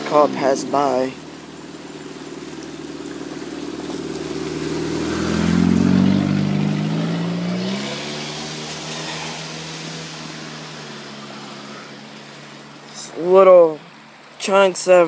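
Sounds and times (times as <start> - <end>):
car driving past: 0.6 - 12.9.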